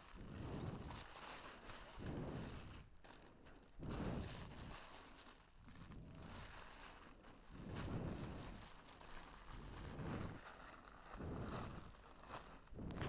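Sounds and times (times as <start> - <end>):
jacket and plastic packaging rustling: 0.0 - 13.0.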